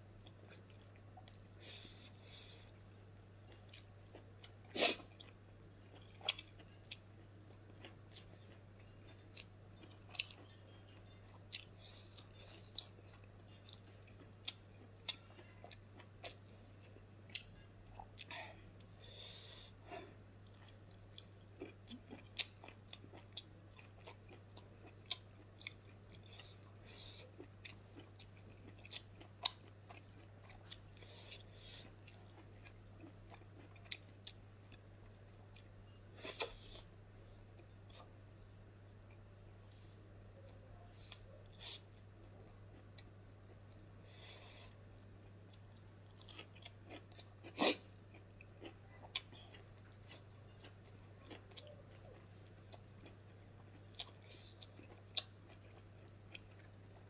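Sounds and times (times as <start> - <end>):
person chewing with wet smacks: 0.2 - 38.2, 40.4 - 57.0.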